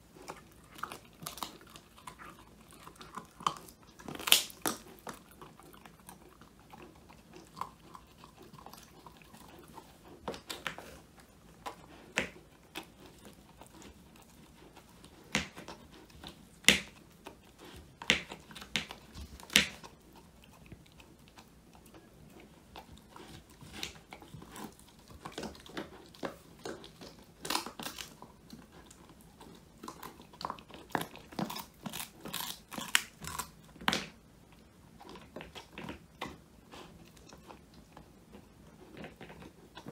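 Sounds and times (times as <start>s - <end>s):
dog crunching bones: 0.0s - 39.9s.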